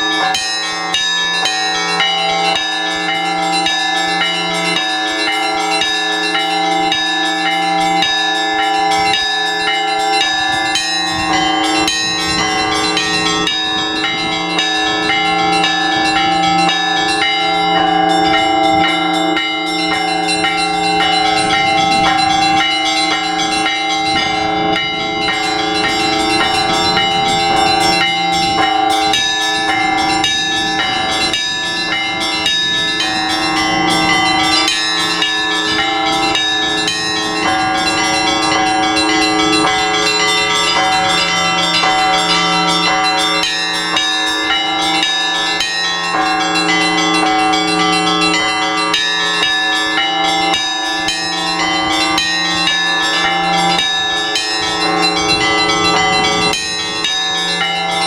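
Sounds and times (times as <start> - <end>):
church bells pealing: 0.0 - 58.0.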